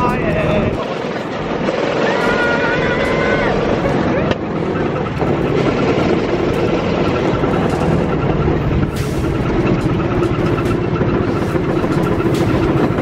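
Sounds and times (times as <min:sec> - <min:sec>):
wind on microphone: 0:00.0 - 0:13.0
small vehicle engine running: 0:00.1 - 0:13.0.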